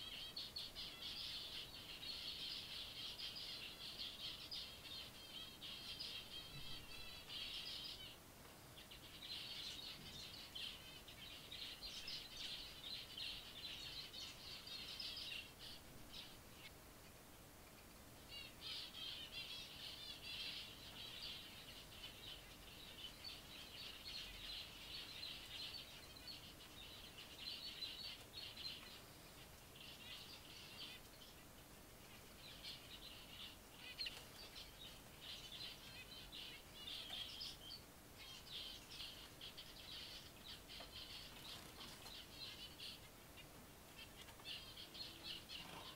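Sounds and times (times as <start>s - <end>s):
finches chirping: 0.0s - 17.2s, 18.2s - 45.9s.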